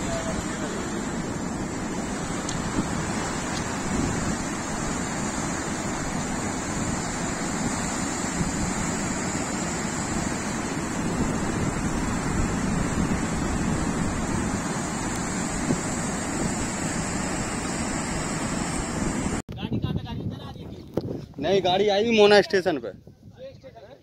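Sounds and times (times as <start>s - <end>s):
floodwater rushing: 0.0s - 19.4s.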